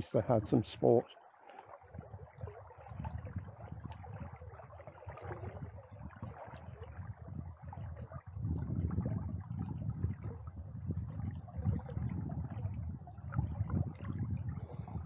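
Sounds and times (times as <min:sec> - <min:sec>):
small water splashes: 0:00.0 - 0:15.0.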